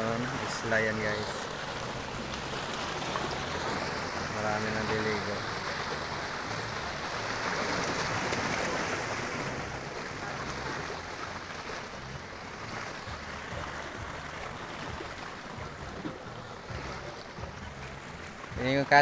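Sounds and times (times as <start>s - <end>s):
waves splashing against boulders: 0.0s - 19.0s.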